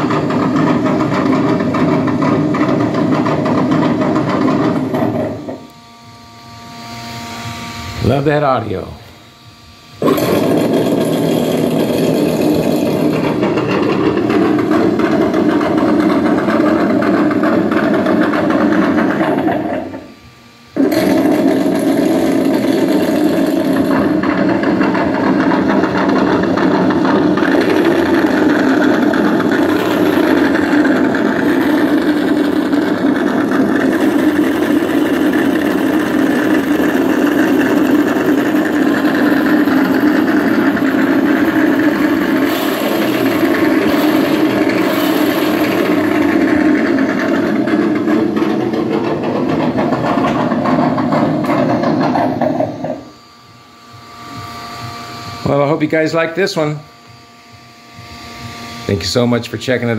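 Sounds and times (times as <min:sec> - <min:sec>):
simulated engine sound from speaker: 0:00.0 - 0:54.6, 0:55.2 - 0:57.1, 0:58.8 - 0:59.9.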